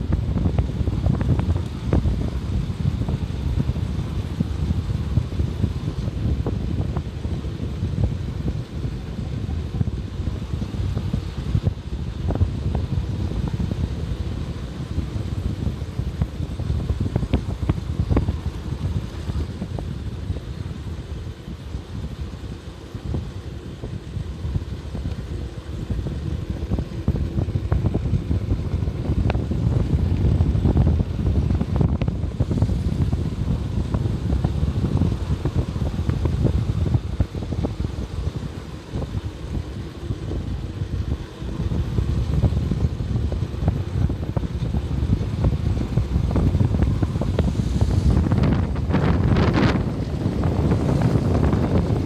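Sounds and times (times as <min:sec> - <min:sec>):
road and wind rumble: 0:00.0 - 0:52.0.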